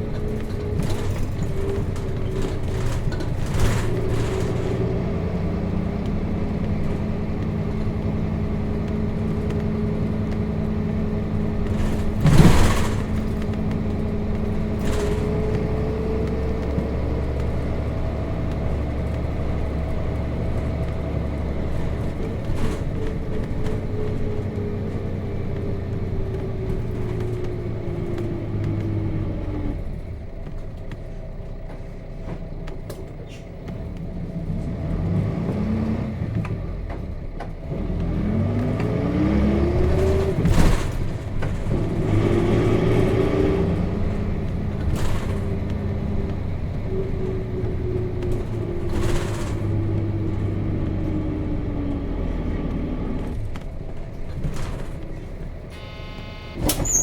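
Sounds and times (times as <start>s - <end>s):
diesel bus engine: 0.0s - 57.0s.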